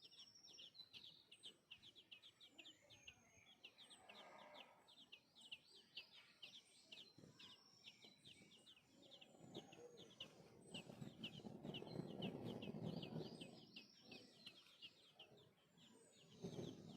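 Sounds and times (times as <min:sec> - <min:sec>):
nestling birds chirping: 0:00.0 - 0:16.9.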